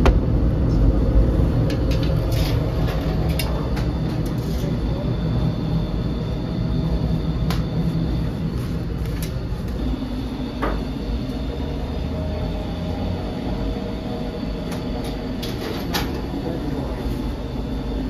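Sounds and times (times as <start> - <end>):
low rumble of bakery: 0.0 - 18.0.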